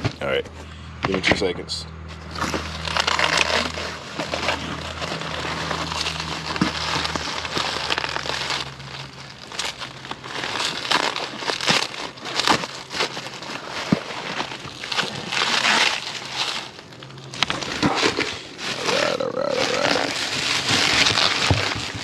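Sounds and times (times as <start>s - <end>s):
packing material crinkling: 2.2s - 22.0s.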